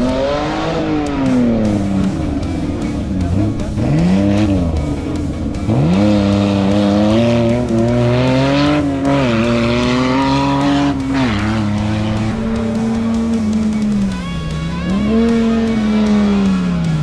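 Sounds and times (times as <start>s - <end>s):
engine revving hard: 0.0s - 17.0s.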